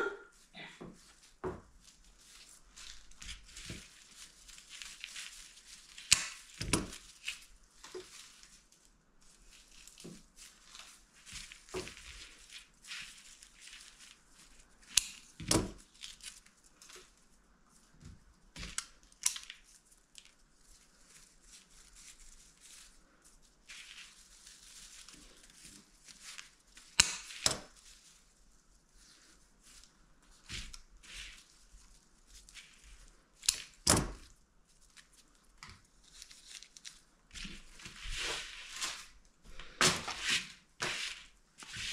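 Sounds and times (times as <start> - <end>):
rustling and crinkling materials: 0.0 - 41.9.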